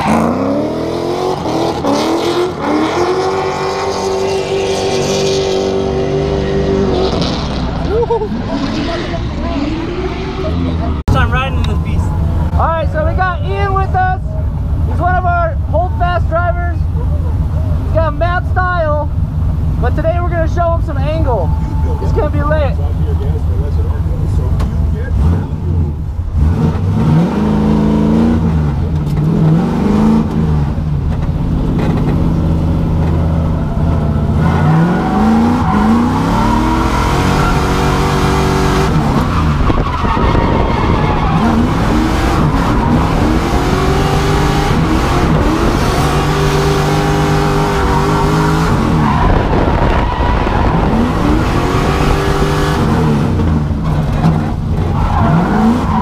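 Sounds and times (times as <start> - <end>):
car engine revving: 0.0 - 56.0
tyres skidding: 0.0 - 56.0.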